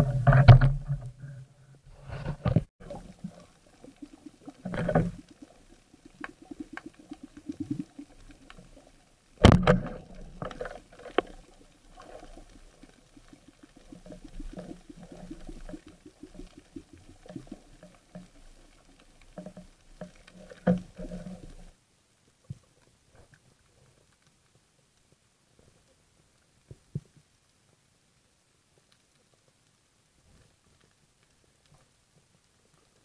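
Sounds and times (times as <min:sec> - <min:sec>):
underwater clicking and crackling: 0:00.0 - 0:21.8, 0:22.4 - 0:27.8, 0:28.7 - 0:33.0.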